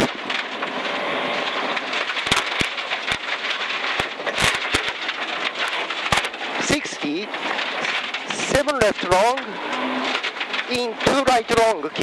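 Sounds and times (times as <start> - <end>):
car engine under load: 0.0 - 12.0
stones hitting car underbody: 0.0 - 12.0
tyres on loose gravel: 0.0 - 12.0.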